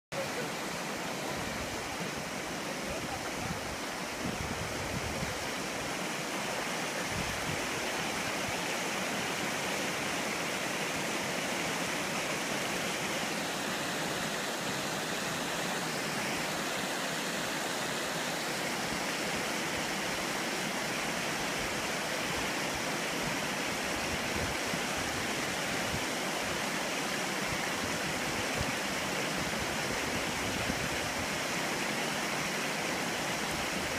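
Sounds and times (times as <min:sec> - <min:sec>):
water rushing over road: 0:00.2 - 0:33.9.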